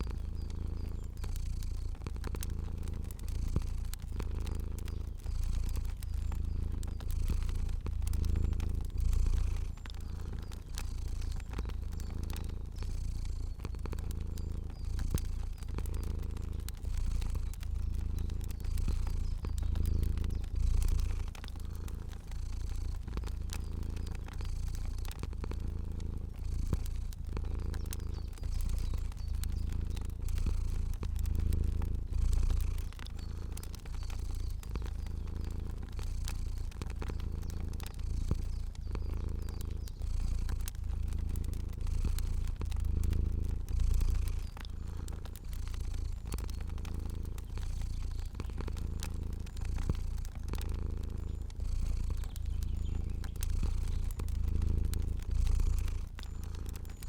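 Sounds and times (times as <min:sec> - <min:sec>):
cat purring: 0:00.0 - 0:57.0
fire crackling: 0:00.0 - 0:57.0.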